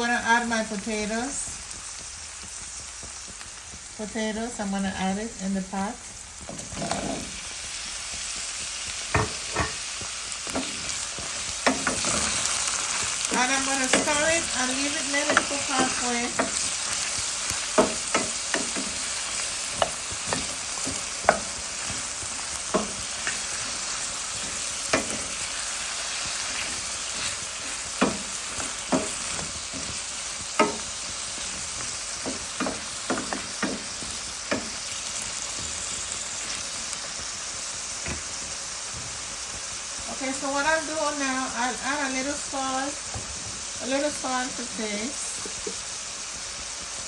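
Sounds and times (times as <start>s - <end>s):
vegetables sizzling in oil: 0.0s - 47.0s.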